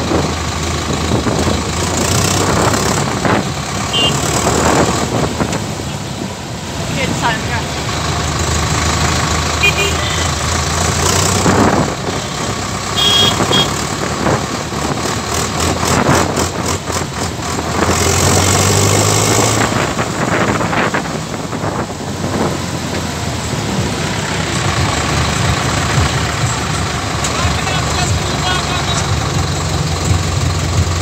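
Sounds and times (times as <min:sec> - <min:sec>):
road and wind noise: 0:00.0 - 0:31.0
tractor diesel engine running: 0:00.0 - 0:31.0.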